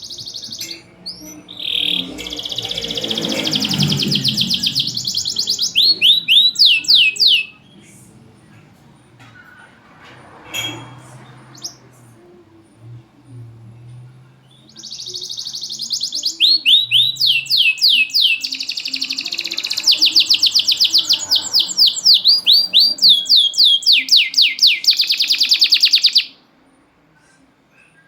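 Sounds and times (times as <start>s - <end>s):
canary singing: 0.0s - 26.5s.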